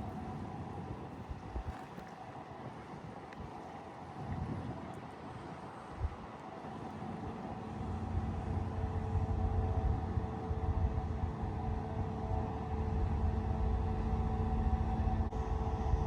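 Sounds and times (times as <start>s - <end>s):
machinery hum: 0.0s - 16.0s
ship engine rumble: 0.0s - 16.0s.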